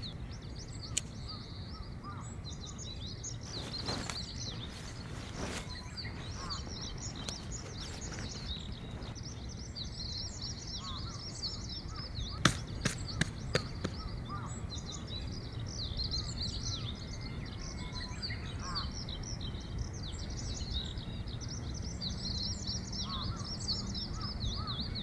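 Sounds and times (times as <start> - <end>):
small birds chirping chorus: 0.0 - 25.0.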